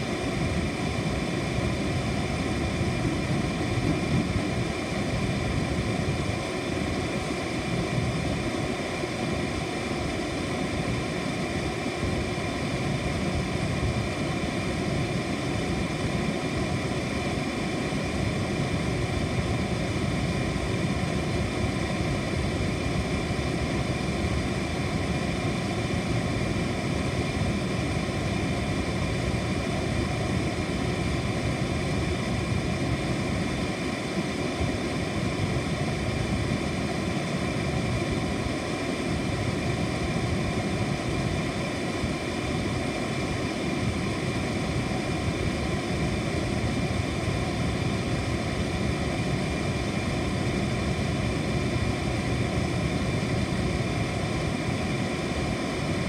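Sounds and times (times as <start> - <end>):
air conditioner fan rushing: 0.0 - 56.0.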